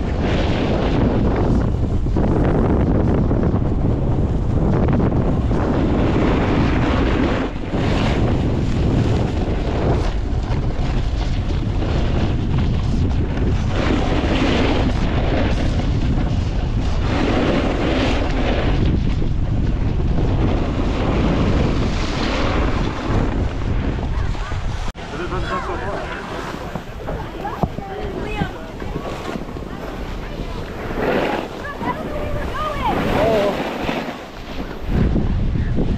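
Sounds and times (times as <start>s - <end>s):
skis carving across snow: 0.0s - 35.9s
wind rushing over microphone: 0.0s - 35.9s.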